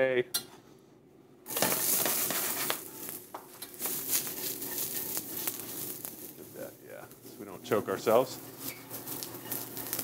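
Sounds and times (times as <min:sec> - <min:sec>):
vegetables sizzling in hot oil: 0:01.5 - 0:10.0.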